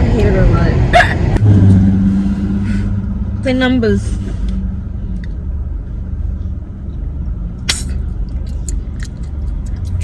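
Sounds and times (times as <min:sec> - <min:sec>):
car rumbling inside cabin: 0:00.0 - 0:10.0.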